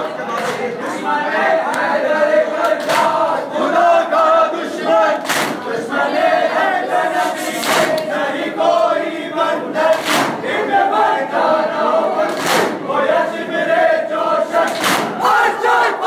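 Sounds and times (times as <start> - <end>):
crowd chanting in unison: 0.0 - 16.0.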